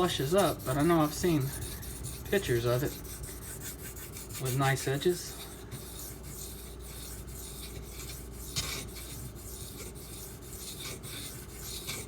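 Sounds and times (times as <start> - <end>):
knife blade rubbing on whetstone: 0.0 - 12.0.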